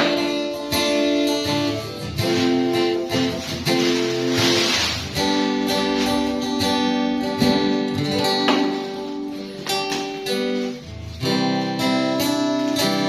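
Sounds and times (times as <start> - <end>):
guitar strumming and picking: 0.0 - 13.0.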